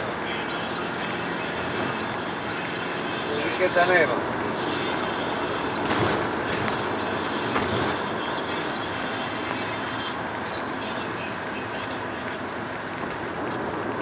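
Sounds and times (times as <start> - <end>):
road and engine noise inside van: 0.0 - 14.0.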